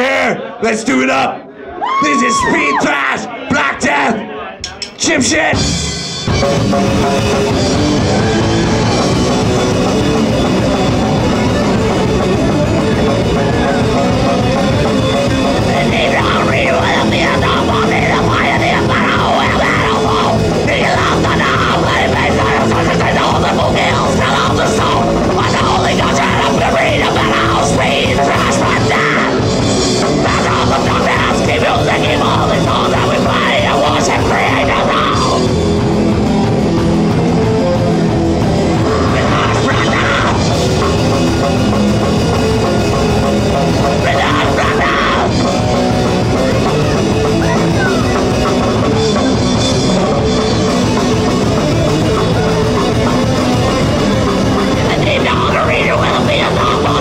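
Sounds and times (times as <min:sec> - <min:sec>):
shouted vocals: 0:00.0 - 0:05.6, 0:15.4 - 0:29.5, 0:30.1 - 0:41.5, 0:42.5 - 0:57.0
thrash band playing live: 0:04.6 - 0:57.0.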